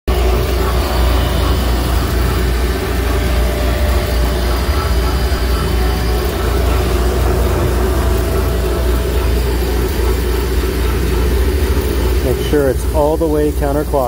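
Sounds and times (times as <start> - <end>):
alternator test rig drone: 0.1 - 14.0.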